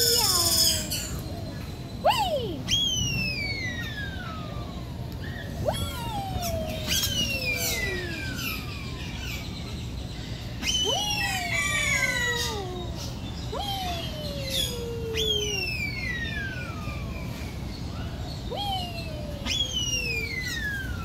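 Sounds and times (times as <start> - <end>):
birds calling with long whistles: 0.0 - 21.0.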